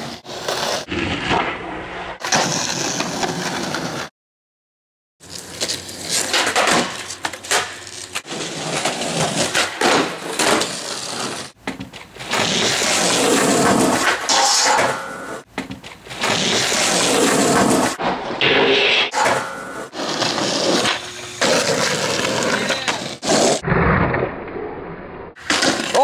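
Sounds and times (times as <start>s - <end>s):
skateboard wheels rolling on concrete: 0.0s - 4.1s, 5.2s - 26.0s.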